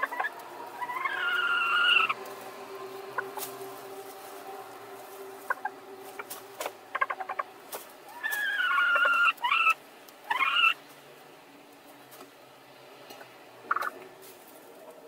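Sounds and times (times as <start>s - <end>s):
hens clucking and squawking: 0.0s - 15.0s.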